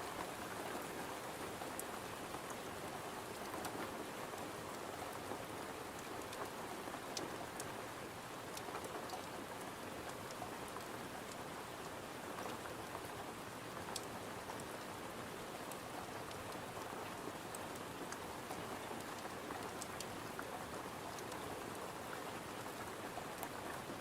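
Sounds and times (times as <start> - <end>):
rain on a window: 0.0 - 24.0.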